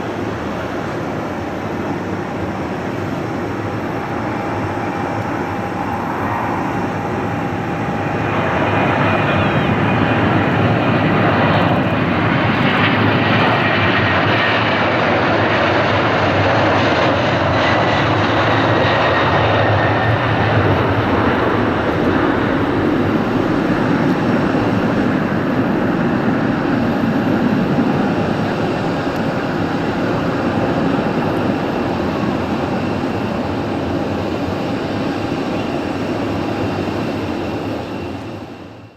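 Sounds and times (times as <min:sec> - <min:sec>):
jet engines at takeoff: 0:00.0 - 0:38.9.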